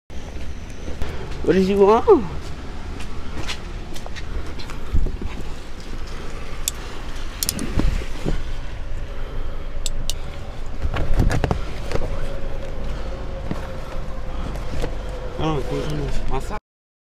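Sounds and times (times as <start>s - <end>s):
steady low rumble: 0.1s - 16.6s.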